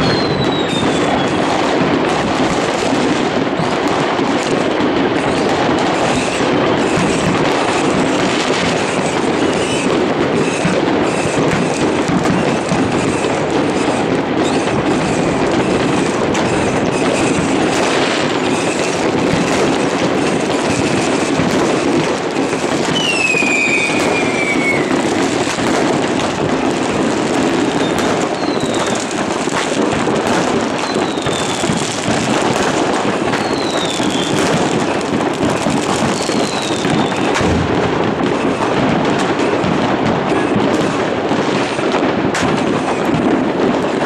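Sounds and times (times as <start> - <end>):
fireworks crackling and banging: 0.0 - 44.0
whistling fireworks: 0.0 - 44.0.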